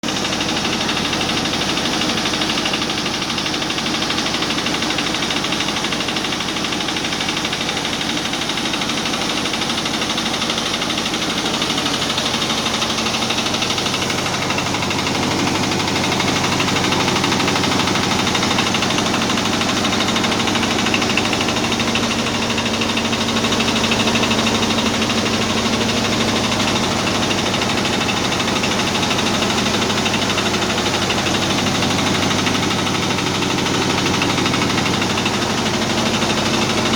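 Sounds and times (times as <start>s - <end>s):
rice milling machine running: 0.0s - 36.9s.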